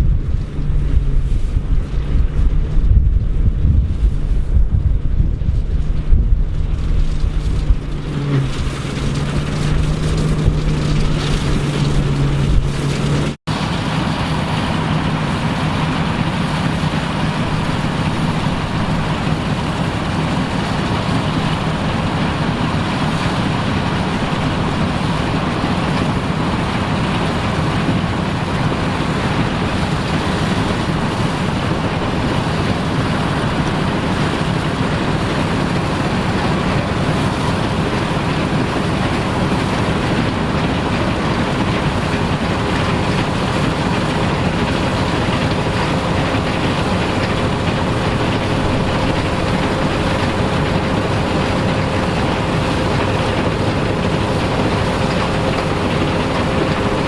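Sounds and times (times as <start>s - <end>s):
farm machinery engine running: 0.0s - 57.0s
noisy machine drone: 0.0s - 57.0s
wind on microphone: 0.0s - 57.0s.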